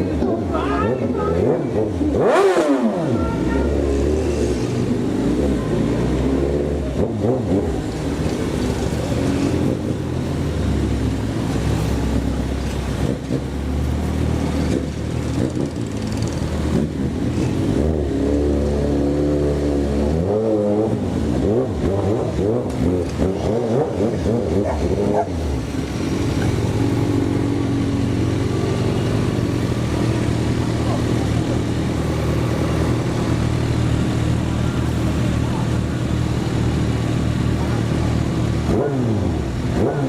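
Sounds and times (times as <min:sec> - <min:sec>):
vehicle engine revving: 0:00.0 - 0:40.0.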